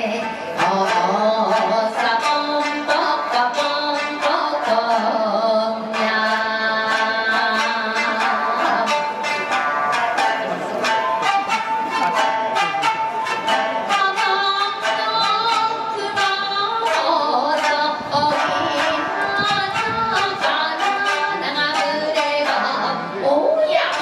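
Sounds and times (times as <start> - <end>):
shamisen ensemble plucking: 0.0 - 24.0.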